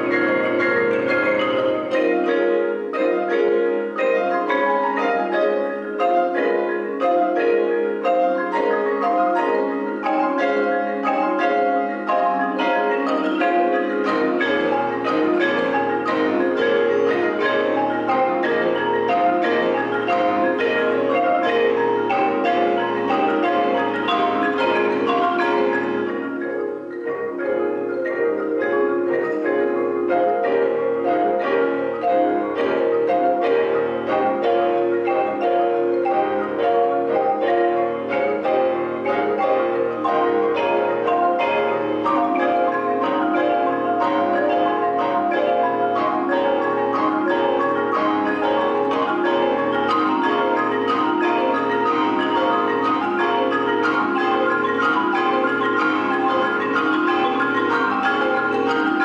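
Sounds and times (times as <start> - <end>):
marimbas played with mallets: 0.0 - 59.0.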